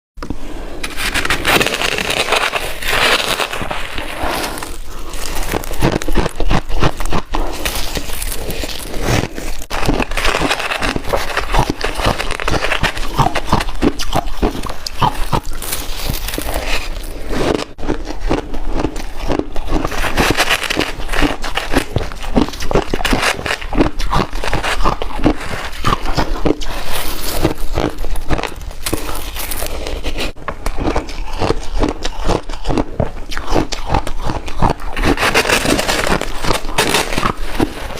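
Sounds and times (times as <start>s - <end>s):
person chewing ice: 0.8s - 37.9s.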